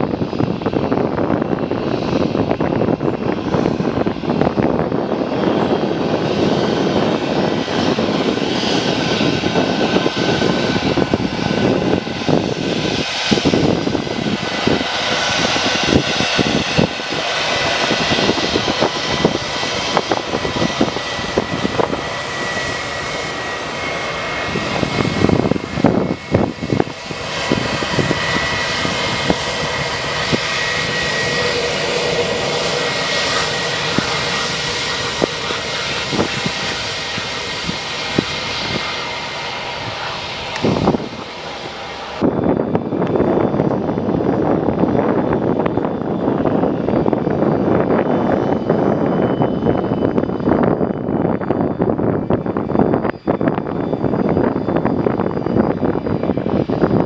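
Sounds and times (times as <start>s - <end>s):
jet engines at taxi power: 0.0s - 57.0s.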